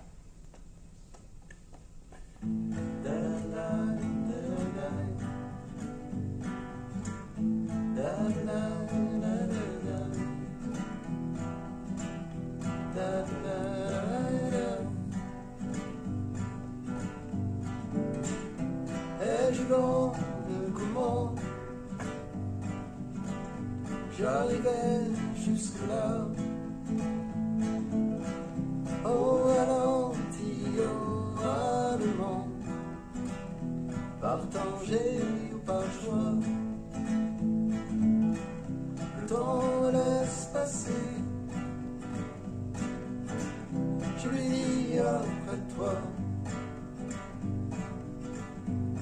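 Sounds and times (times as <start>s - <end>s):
acoustic guitars playing: 2.0s - 49.0s.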